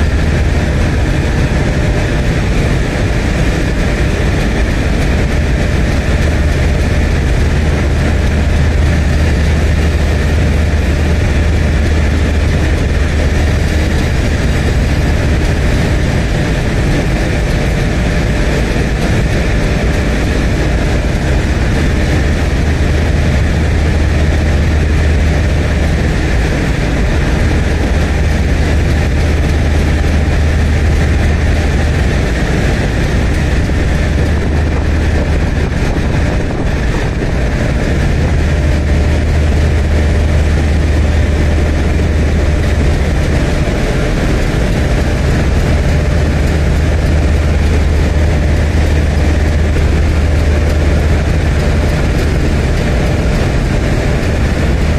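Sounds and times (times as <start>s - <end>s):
diesel locomotive idling hum: 0.0s - 54.9s.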